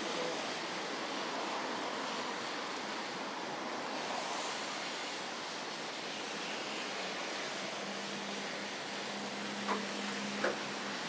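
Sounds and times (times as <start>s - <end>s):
rain-soaked street hiss: 0.0s - 11.0s.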